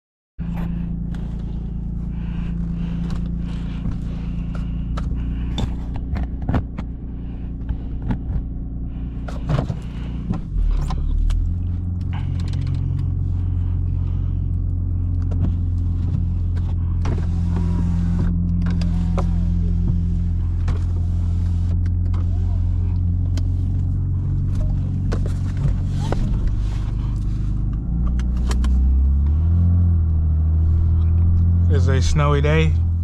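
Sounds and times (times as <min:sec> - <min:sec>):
car engine running: 0:00.4 - 0:33.0.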